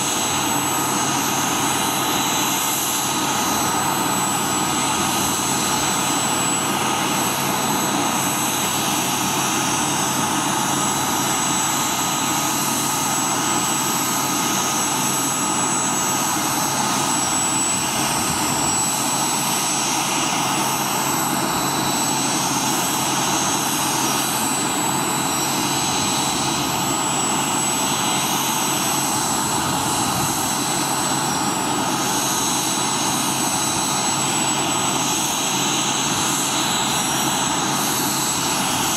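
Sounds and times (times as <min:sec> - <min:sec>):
helicopter turbine whine: 0:00.0 - 0:38.9.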